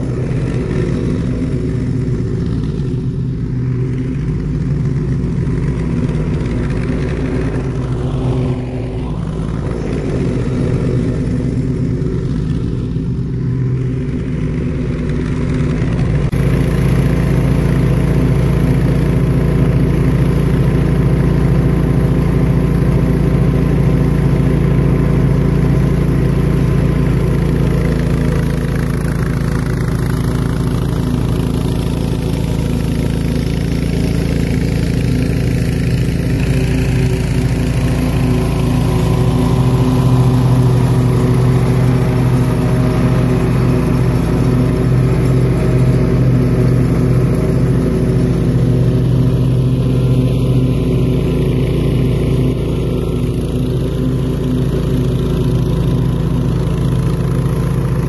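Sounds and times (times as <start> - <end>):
garden tractor engine running: 0.0 - 58.0.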